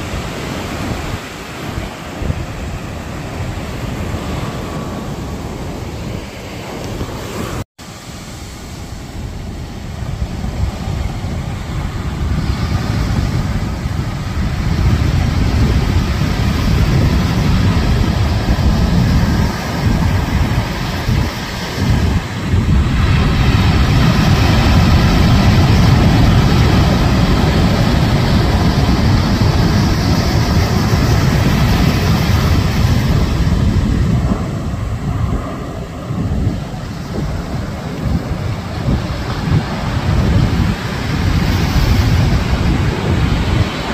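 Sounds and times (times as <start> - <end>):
surf breaking: 0.0 - 43.9
wind buffeting microphone: 0.0 - 43.9.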